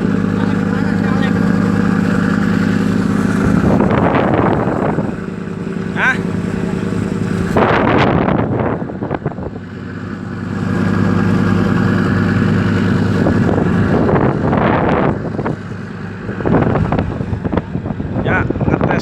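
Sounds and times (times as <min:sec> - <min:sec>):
motorboat engine running: 0:00.0 - 0:19.0
wind noise on microphone: 0:01.4 - 0:19.0.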